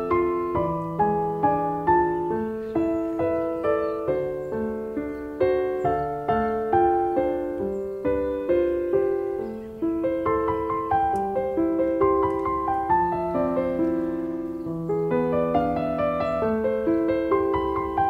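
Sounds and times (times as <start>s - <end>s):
slow gentle piano melody: 0.0s - 18.0s.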